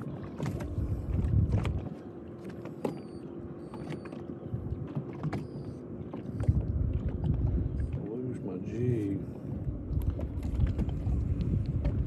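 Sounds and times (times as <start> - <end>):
low hum aboard boat: 0.0 - 12.0.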